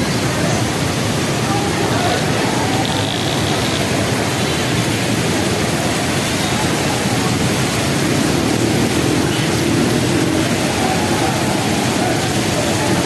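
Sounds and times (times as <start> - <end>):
heavy rain pouring: 0.0 - 13.0
traffic on wet road: 0.0 - 13.0.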